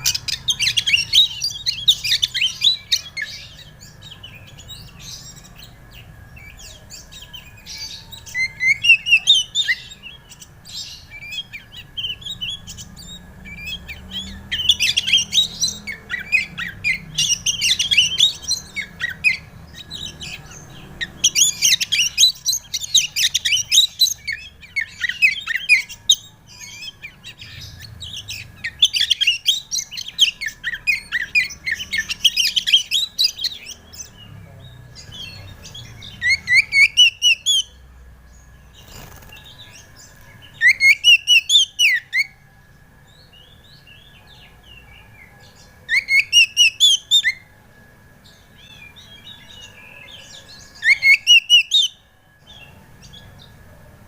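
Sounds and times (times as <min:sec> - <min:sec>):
bird singing chirps and twitters: 0:00.0 - 0:54.0.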